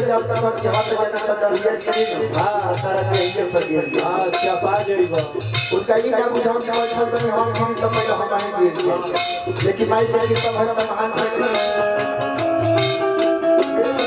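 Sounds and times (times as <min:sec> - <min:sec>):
hand cymbals clinking: 0:00.0 - 0:14.0
held instrumental tones: 0:00.0 - 0:14.0
man singing into a microphone: 0:00.0 - 0:14.0.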